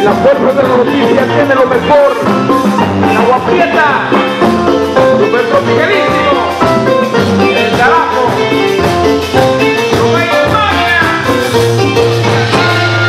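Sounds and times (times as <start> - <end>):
lead singer singing: 0.0 - 2.2, 3.0 - 13.0
live latin band music: 0.0 - 13.0.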